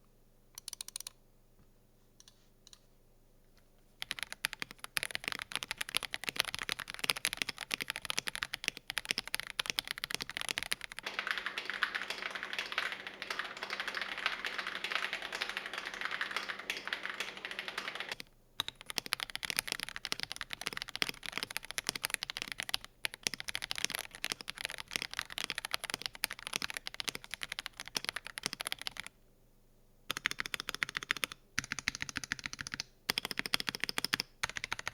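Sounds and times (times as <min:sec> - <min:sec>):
mechanical keyboard typing: 0:00.6 - 0:01.1, 0:04.0 - 0:29.1, 0:30.1 - 0:34.9.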